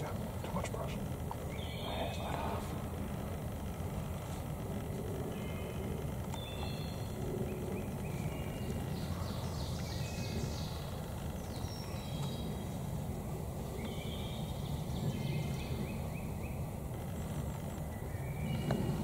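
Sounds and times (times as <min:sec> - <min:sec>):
low background rumble: 0:00.0 - 0:19.0
small birds singing: 0:00.0 - 0:19.0.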